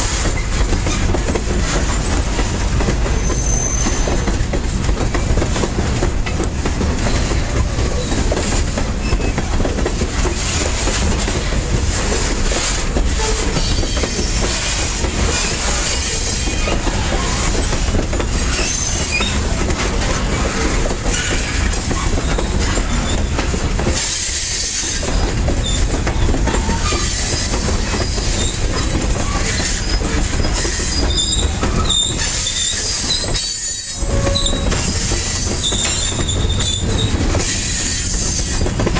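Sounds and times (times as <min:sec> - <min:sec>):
train flanges squealing: 0:00.0 - 0:38.9
train wheels clacking over rail joints: 0:00.0 - 0:38.9.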